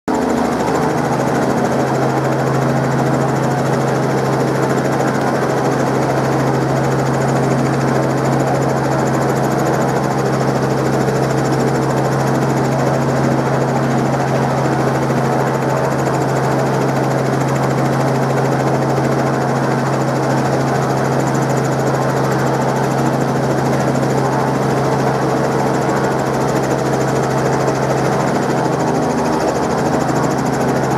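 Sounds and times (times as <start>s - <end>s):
helicopter roaring: 0.1s - 30.9s.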